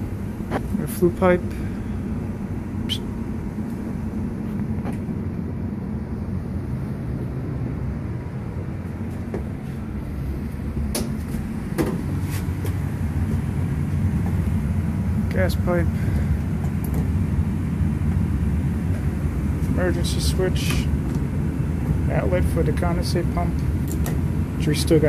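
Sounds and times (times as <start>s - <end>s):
gas furnace humming: 0.0s - 25.0s.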